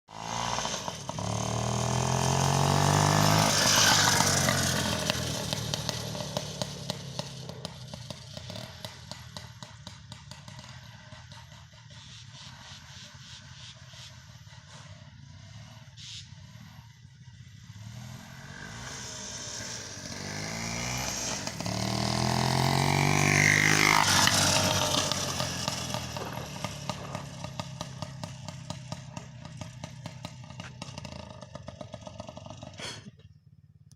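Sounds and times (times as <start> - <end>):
small motorcycle passing by: 0.1 - 33.1.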